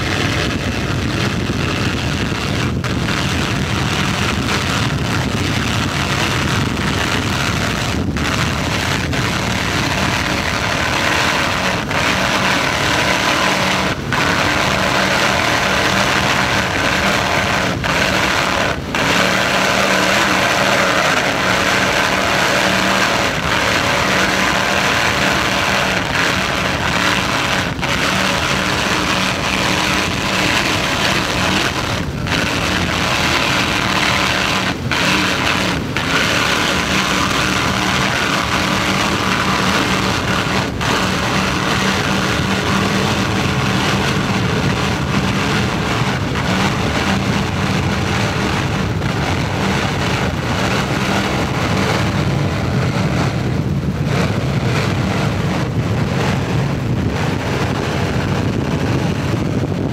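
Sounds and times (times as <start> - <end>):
powerboat engines droning: 0.0 - 59.9
water and wind rushing: 0.0 - 59.9.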